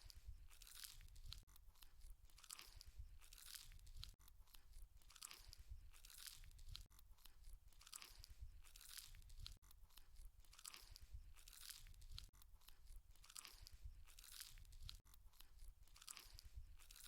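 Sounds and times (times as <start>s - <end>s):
close chewing and crunching: 0.0s - 17.0s.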